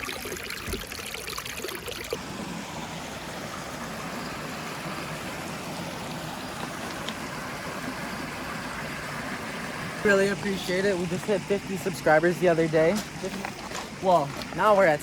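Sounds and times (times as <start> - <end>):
creek water flowing over rocks: 0.0 - 15.0.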